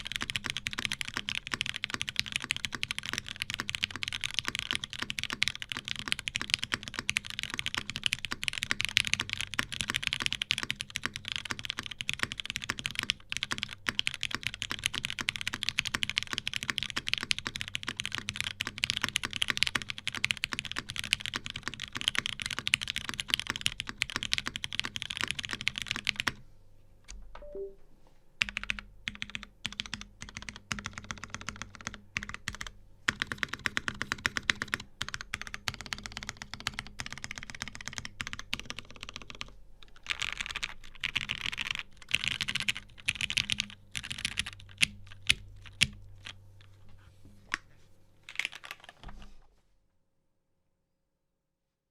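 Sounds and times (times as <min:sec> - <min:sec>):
fast mechanical keyboard typing: 0:00.0 - 0:26.4, 0:28.4 - 0:46.4, 0:48.3 - 0:49.0.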